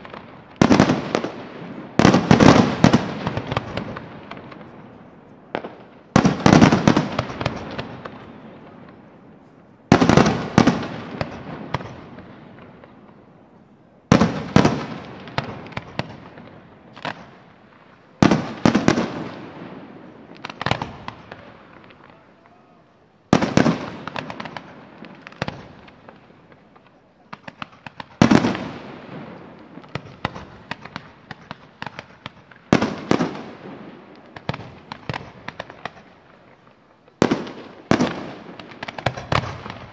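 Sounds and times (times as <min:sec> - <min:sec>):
firework crackles and pops: 0:00.0 - 0:39.9.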